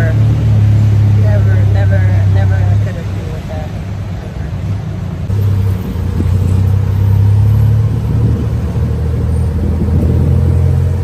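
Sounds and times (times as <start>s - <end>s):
three-wheeler engine rumbling: 0.0s - 11.0s.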